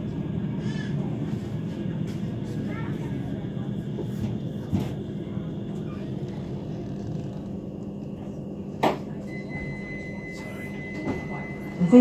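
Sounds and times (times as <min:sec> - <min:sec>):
tram humming: 0:00.0 - 0:12.0.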